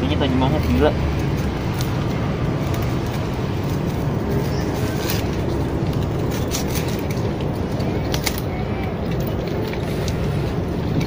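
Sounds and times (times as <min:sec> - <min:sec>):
bananas rustling and cracking: 0:00.0 - 0:11.0
city traffic rumble: 0:00.0 - 0:11.0.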